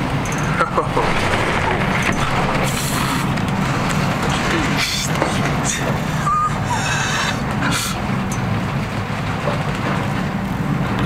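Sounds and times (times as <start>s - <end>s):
ship engine drone: 0.0s - 11.0s
stormy wind: 0.0s - 11.0s.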